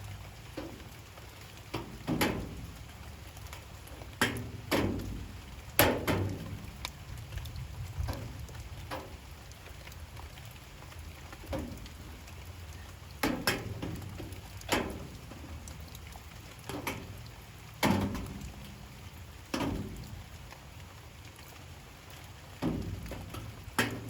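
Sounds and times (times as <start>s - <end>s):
raindrops tapping hard surface: 0.0s - 24.0s.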